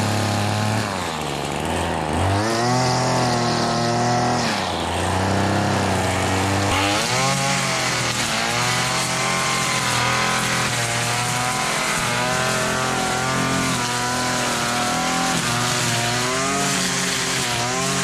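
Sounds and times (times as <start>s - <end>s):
string trimmer engine revving: 0.0s - 18.0s.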